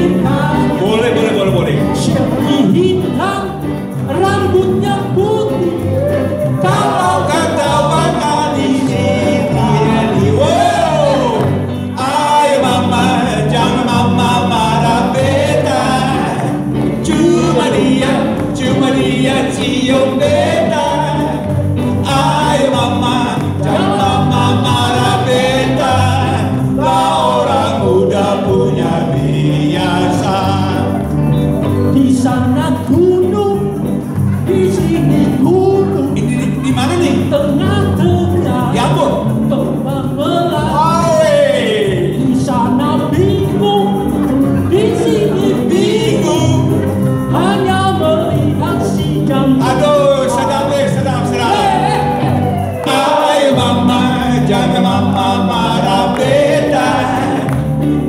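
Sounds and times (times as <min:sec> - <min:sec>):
cajon drumming: 0:00.0 - 0:58.0
electric guitars: 0:00.0 - 0:58.0
people singing into microphones: 0:00.0 - 0:58.0.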